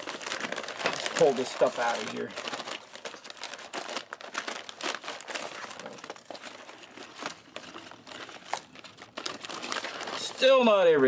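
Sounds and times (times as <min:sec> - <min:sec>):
paper bag crinkling and rustling: 0:00.0 - 0:11.0.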